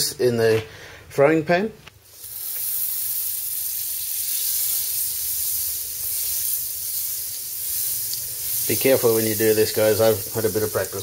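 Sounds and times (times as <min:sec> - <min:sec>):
butter sizzling in a frying pan: 0:02.0 - 0:11.0.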